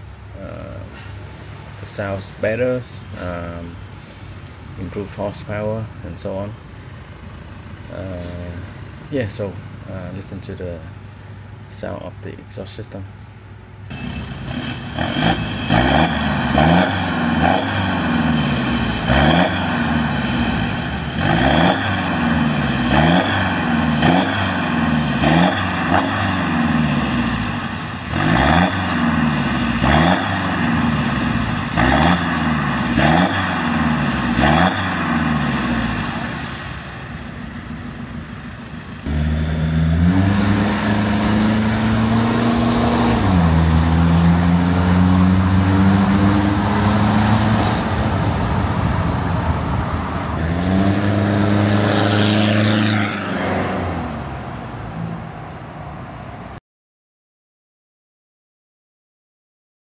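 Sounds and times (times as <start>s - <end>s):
diesel engine revving: 0.0s - 11.9s, 13.8s - 55.1s.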